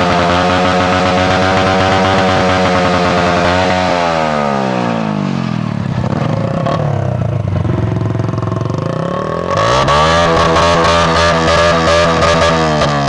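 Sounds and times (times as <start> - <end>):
engine stuttering on rev limiter: 0.0 - 13.0
motorcycle engine revving: 0.0 - 13.0.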